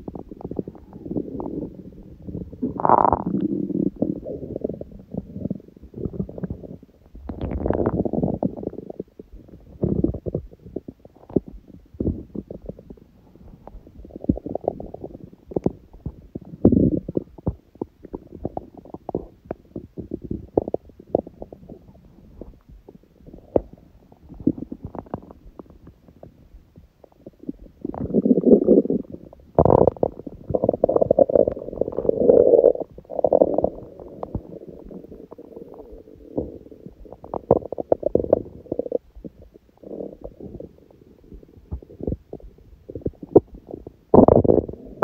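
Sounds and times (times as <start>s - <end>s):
stomach growling: 0.0s - 45.0s.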